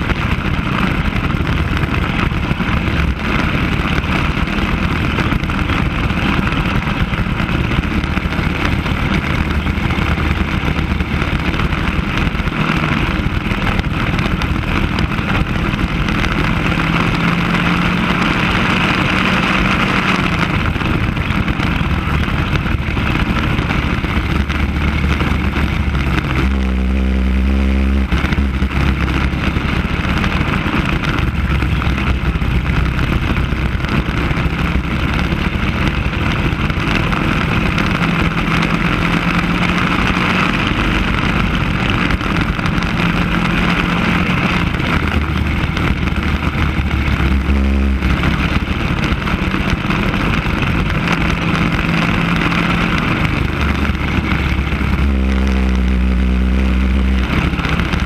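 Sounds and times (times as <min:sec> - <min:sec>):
go-kart engine racing: 0:00.0 - 0:58.0.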